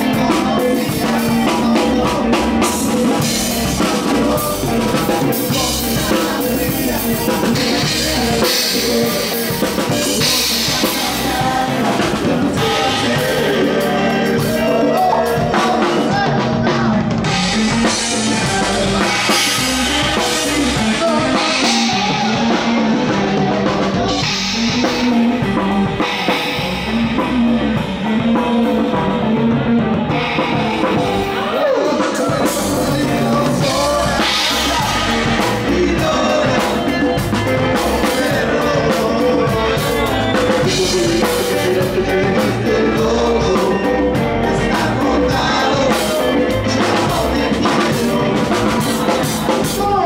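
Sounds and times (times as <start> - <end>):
drums and cymbals: 0.0 - 50.0
electric guitar: 0.0 - 50.0
person singing: 0.0 - 50.0.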